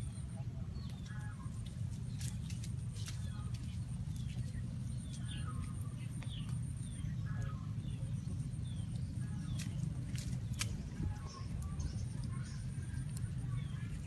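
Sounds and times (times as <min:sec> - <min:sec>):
birds chirping: 0:00.0 - 0:14.0
steady low rumble: 0:00.0 - 0:14.0
wood fire crackles: 0:00.0 - 0:14.0.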